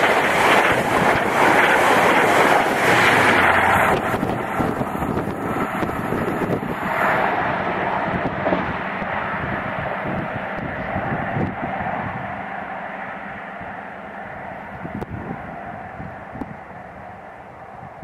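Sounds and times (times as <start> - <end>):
wind noise on microphone: 0.0 - 12.4, 13.6 - 18.0
train passing at speed: 0.0 - 18.0
train wheels on rails: 0.0 - 18.0.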